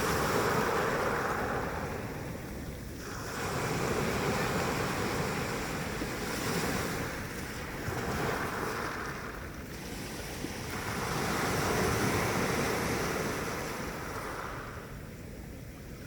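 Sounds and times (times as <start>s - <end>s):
sea waves washing ashore: 0.0s - 16.0s
wind rumble on microphone: 0.0s - 16.0s.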